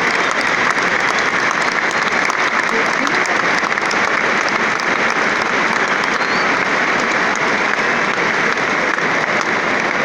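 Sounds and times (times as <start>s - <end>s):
people clapping close by: 0.0s - 10.0s
stadium crowd applauding: 0.0s - 10.0s.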